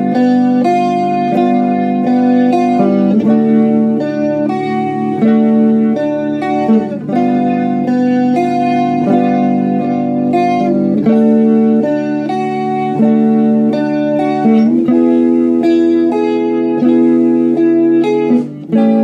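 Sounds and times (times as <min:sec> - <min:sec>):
electric guitar chords: 0:00.0 - 0:19.0.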